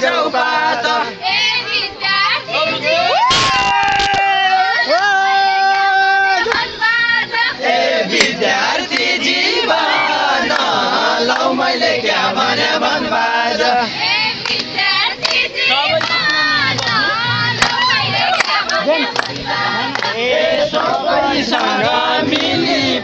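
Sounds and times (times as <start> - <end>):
crowd chanting and shouting: 0.0 - 23.0.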